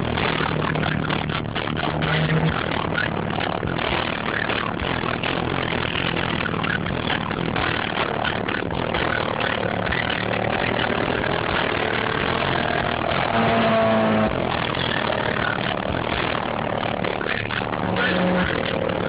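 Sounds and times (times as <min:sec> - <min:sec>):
car engine idling: 0:00.0 - 0:19.0
steady tone: 0:00.0 - 0:19.0.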